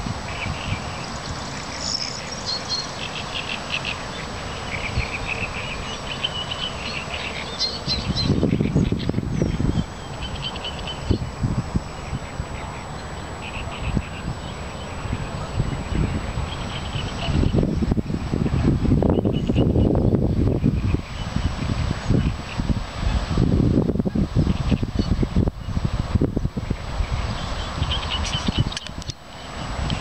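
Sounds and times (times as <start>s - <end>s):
songbirds singing: 0.0s - 22.7s, 26.5s - 30.0s.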